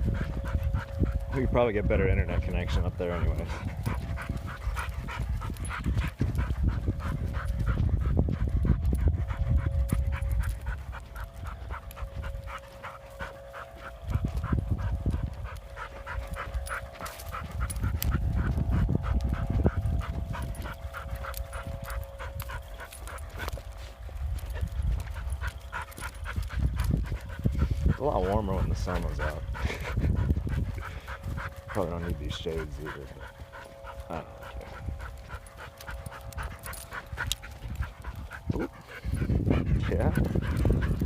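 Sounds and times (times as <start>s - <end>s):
dog panting: 0.0s - 41.0s
low rumble: 0.0s - 41.0s.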